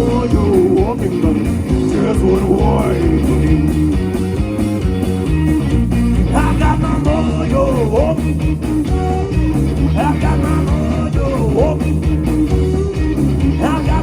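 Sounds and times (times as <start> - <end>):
blues-rock band playing: 0.0 - 14.0
electric guitar bent notes: 0.0 - 14.0.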